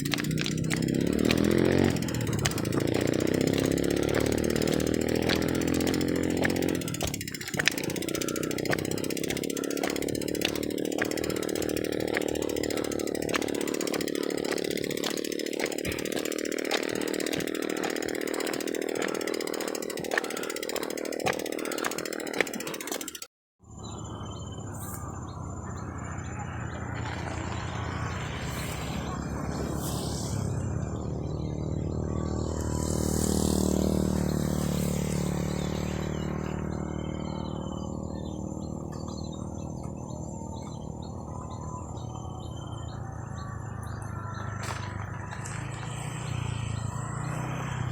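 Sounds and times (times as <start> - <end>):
insects chirping: 0.0 - 47.9
motorcycle passing by: 0.0 - 47.9
small engine running: 0.0 - 47.9.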